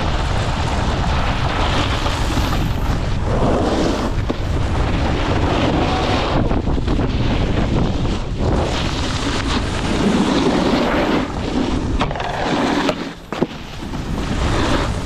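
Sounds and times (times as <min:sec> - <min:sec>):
wind buffeting microphone: 0:00.0 - 0:12.5
snowboards scraping on snow: 0:00.0 - 0:15.0.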